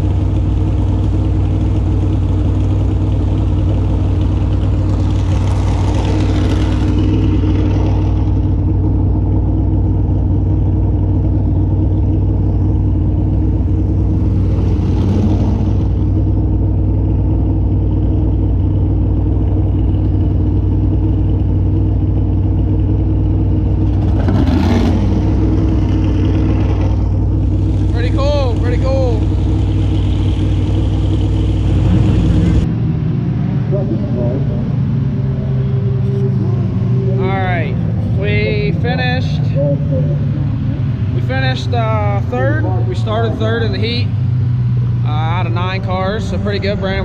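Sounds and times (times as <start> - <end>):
race car engines roaring: 0.0 - 47.0.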